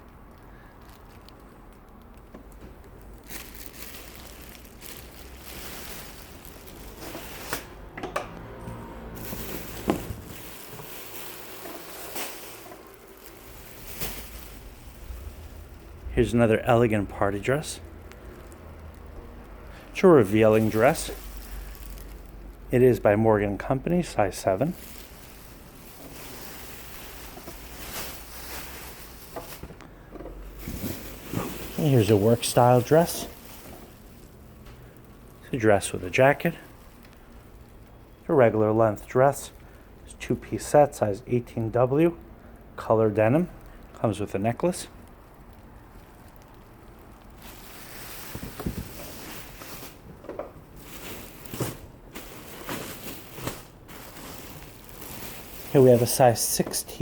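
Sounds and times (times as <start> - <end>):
fabric and wrapping rustling: 0.0 - 39.6, 44.5 - 57.0.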